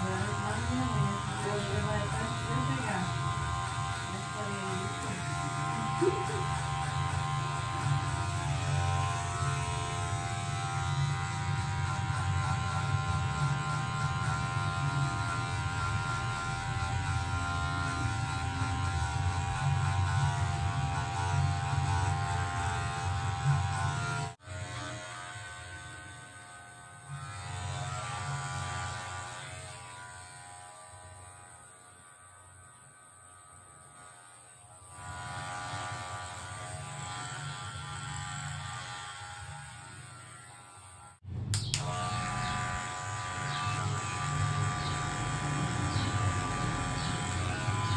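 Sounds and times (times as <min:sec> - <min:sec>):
electric hair clipper buzzing: 0:00.0 - 0:47.9.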